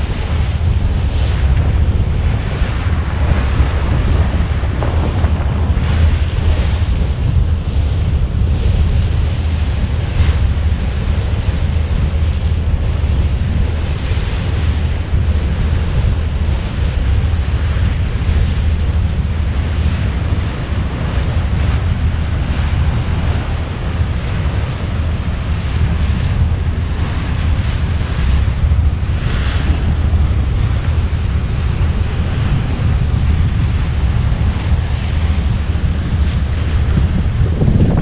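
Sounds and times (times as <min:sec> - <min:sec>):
water rushing past hull: 0:00.0 - 0:38.0
wind buffeting microphone: 0:00.0 - 0:38.0.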